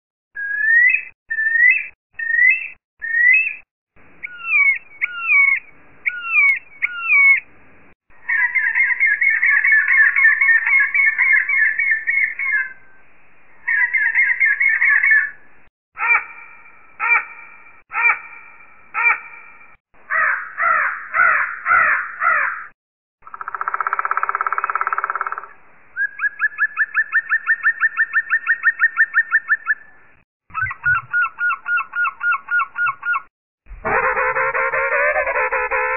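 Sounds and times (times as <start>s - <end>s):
synthesized bird calls: 0.4s - 7.5s, 8.1s - 12.8s, 13.6s - 15.4s, 20.1s - 35.9s.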